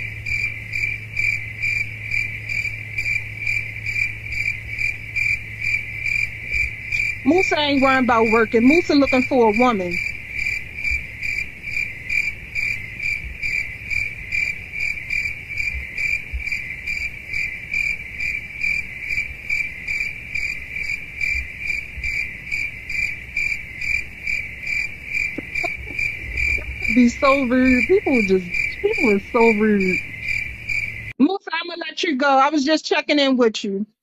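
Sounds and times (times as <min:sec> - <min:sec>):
crickets chirping: 0:00.0 - 0:31.2.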